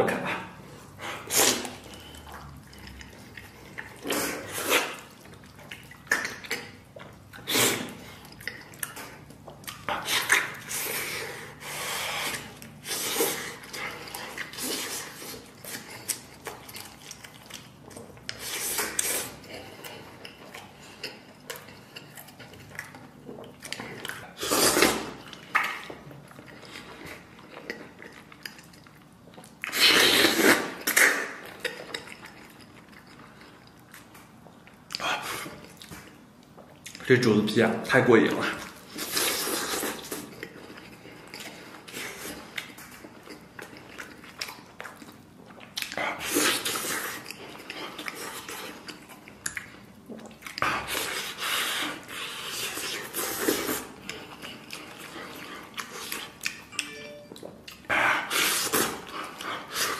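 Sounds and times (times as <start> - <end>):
man chewing food: 0.0 - 37.0, 38.3 - 59.9.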